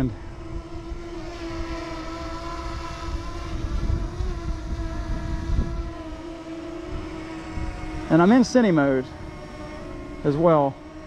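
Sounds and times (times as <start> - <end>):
drone propellers whining: 0.0 - 11.0
wind buffeting microphone: 0.0 - 11.0.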